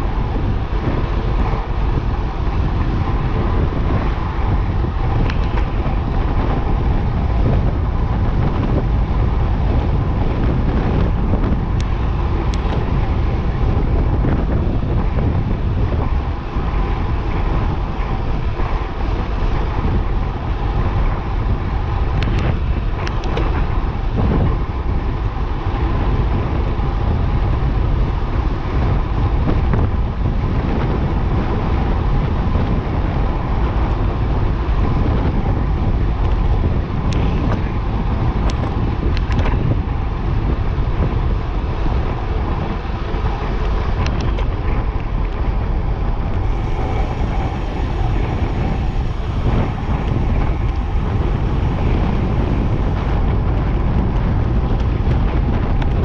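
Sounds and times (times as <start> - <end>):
wind rush on microphone: 0.0 - 56.0.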